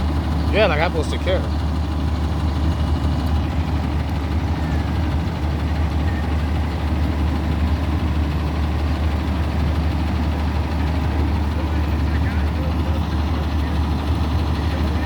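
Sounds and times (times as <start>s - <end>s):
fire engine idling: 0.0s - 15.0s.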